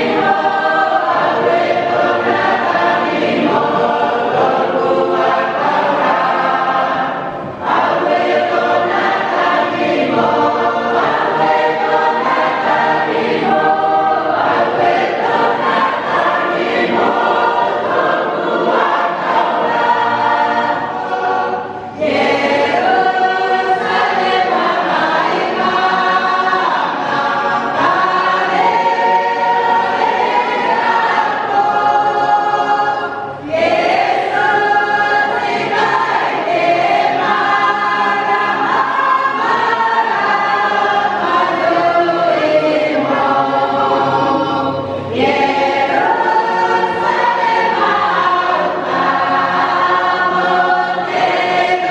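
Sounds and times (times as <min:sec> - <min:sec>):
congregation singing a hymn: 0:00.0 - 0:51.9.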